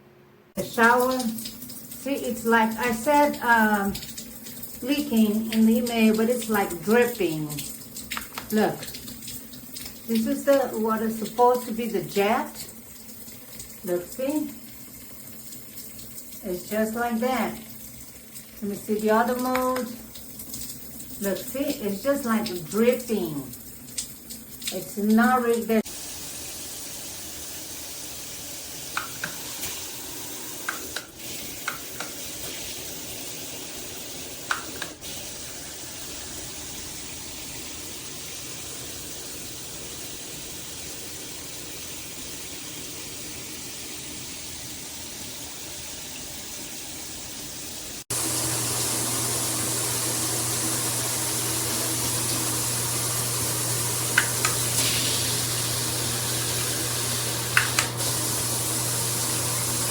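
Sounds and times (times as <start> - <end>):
shower water spraying: 0.6 - 14.6, 23.9 - 59.9.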